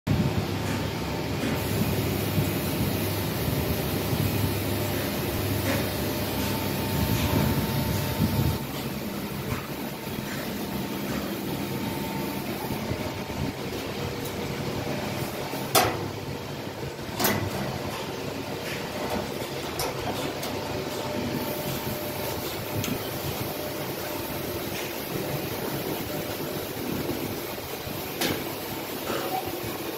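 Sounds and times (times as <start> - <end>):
mixer mechanical hum: 0.1 - 29.9.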